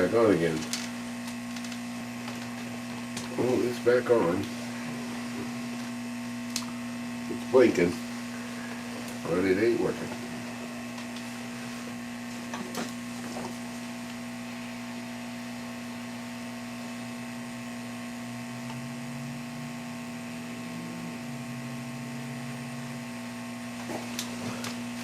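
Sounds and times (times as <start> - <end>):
electrical hum with higher tones: 0.0 - 25.0.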